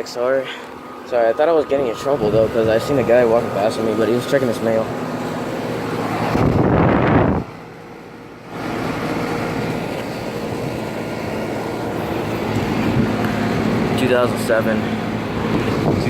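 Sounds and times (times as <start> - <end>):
air conditioner fan rush: 0.0 - 16.0
compressor hum: 0.0 - 16.0.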